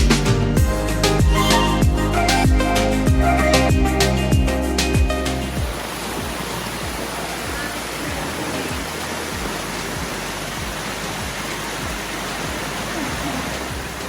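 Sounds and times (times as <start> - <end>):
mountain stream rushing: 0.1 - 14.0.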